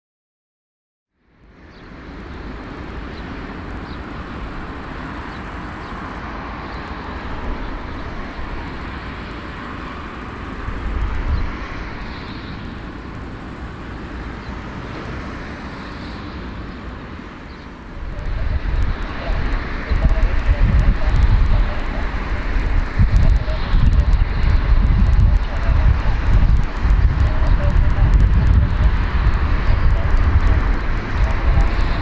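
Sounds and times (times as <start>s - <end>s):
jet engine noise: 1.2s - 32.0s
low rumble: 2.4s - 32.0s.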